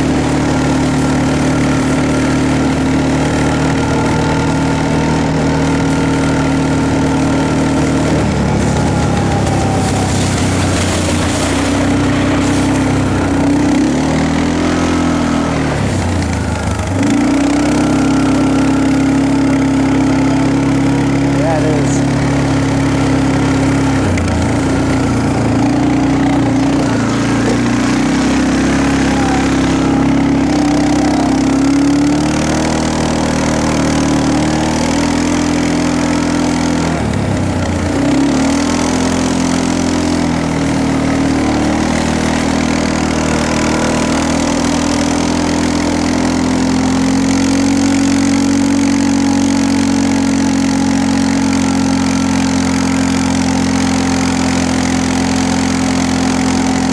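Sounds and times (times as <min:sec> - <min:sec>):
vehicle engine running: 0:00.0 - 0:56.9.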